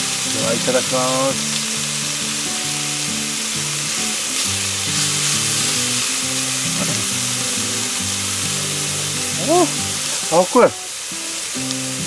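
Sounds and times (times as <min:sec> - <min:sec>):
meat sizzling on griddle: 0:00.0 - 0:12.0
soft background music: 0:00.0 - 0:12.0.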